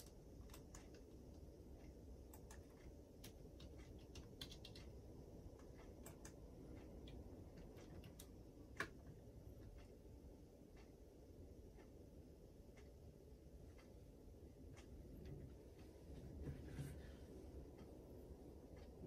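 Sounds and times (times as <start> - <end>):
faint irregular clicks: 0.0 - 19.0.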